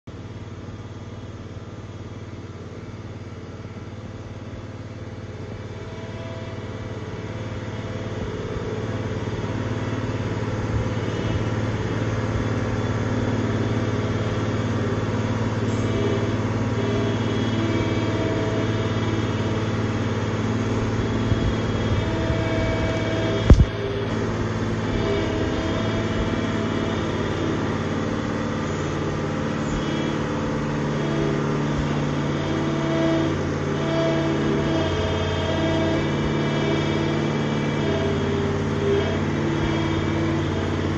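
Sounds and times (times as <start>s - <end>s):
loader engine running: 0.0s - 40.9s.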